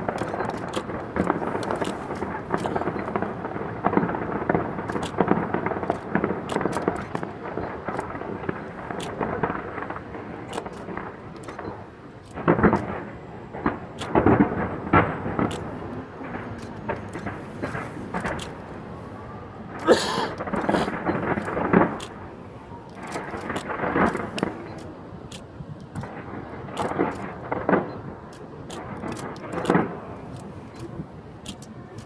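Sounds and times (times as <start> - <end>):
fireworks booming and crackling: 0.0 - 32.0.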